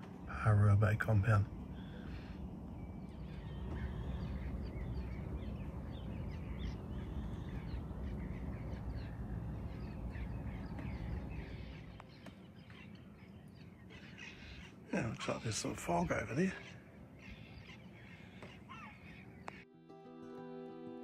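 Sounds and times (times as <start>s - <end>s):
steady low rumble: 0.0s - 18.2s
many birds chirping: 0.0s - 19.7s.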